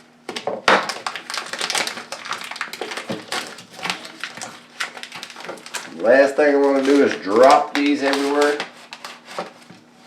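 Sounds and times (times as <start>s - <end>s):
packaging rustling: 0.7s - 9.8s.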